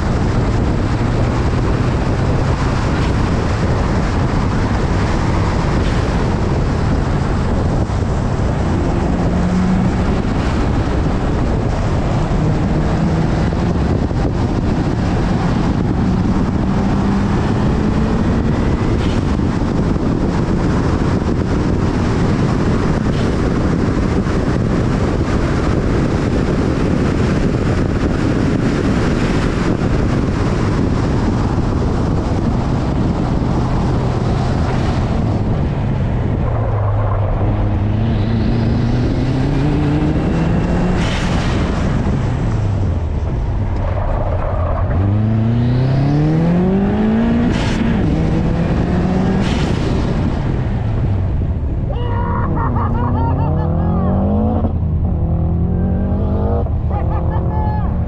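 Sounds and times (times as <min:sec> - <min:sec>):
car engine: 0:00.0 - 0:58.0
wind buffeting microphone: 0:00.0 - 0:58.0.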